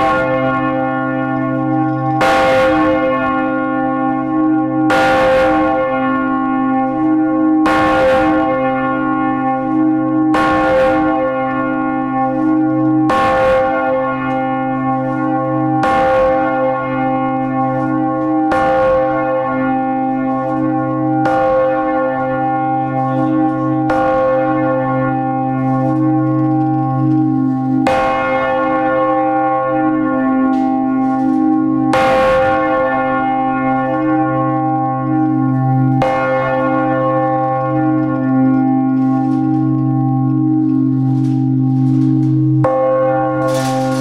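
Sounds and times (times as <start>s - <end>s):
large church bell clanging: 0.0s - 44.0s.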